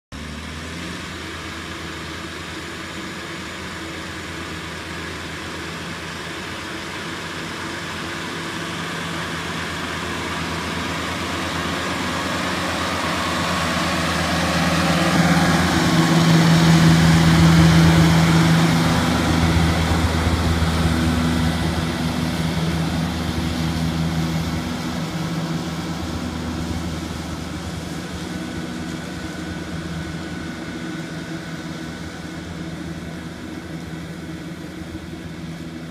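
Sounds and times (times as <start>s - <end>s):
tractor engine driving past: 0.1s - 35.9s
high steady whine: 1.1s - 35.9s.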